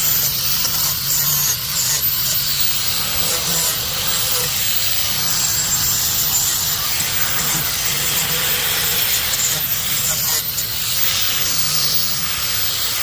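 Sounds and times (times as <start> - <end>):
loud steady hissing: 0.0 - 13.0.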